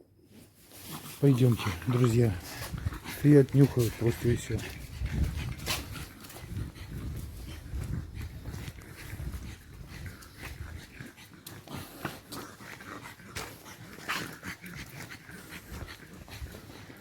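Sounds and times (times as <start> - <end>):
dogs sniffing and snorting: 0.2 - 17.0.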